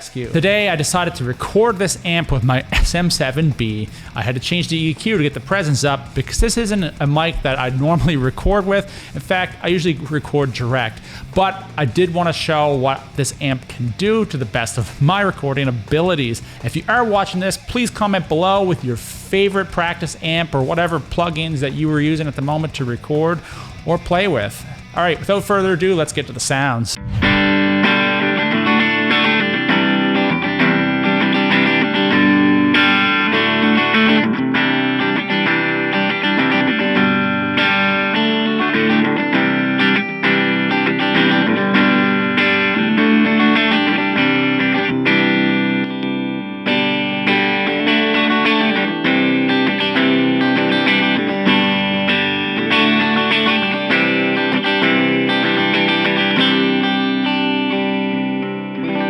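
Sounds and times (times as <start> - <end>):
electric guitar through small amp: 0.0 - 59.0.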